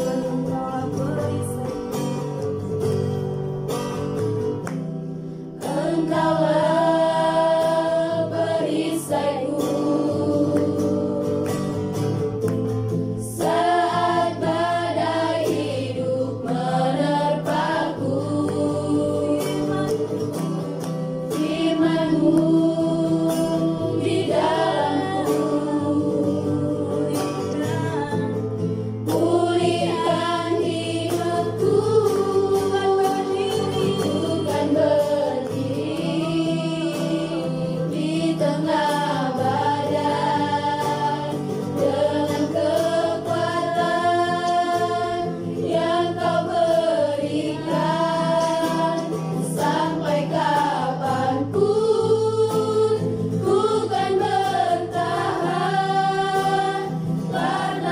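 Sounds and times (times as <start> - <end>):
women singing worship song: 0.0 - 2.3, 5.6 - 12.6, 13.2 - 57.9
strummed acoustic guitar: 0.0 - 57.9.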